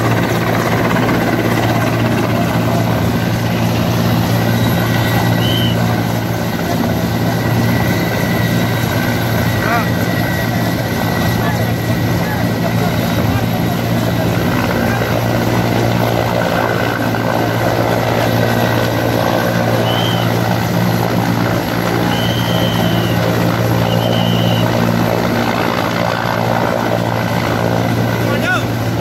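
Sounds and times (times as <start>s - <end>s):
helicopter rotor and engine drone: 0.0s - 29.0s.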